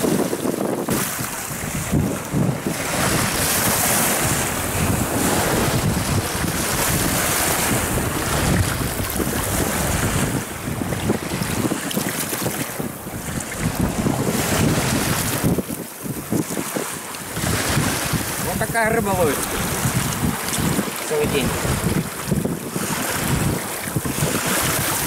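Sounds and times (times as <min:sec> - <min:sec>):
waves breaking on pebble shore: 0:00.0 - 0:25.0
wind buffeting microphone: 0:00.0 - 0:25.0.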